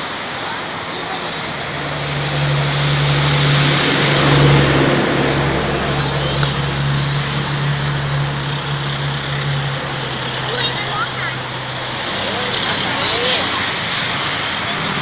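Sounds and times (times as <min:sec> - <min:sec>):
engine humming: 0:00.1 - 0:15.0.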